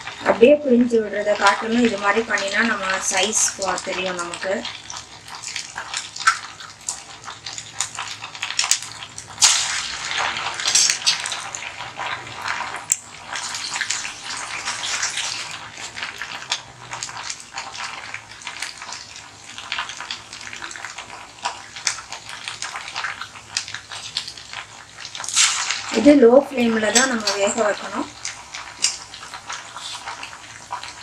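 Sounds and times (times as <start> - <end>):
dough deep-frying in hot oil: 0.0 - 31.0.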